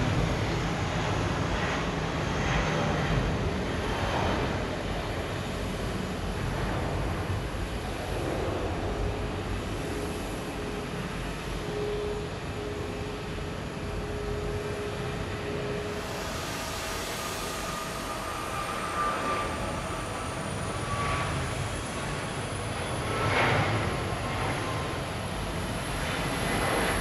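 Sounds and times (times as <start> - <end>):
jet engine high whine: 0.0 - 27.0
jet engines drone: 0.0 - 27.0.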